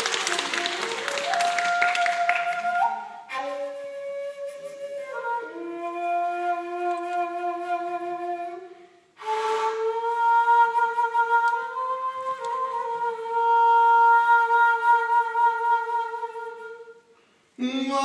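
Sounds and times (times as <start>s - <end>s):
bamboo flute long held notes: 0.0s - 18.0s.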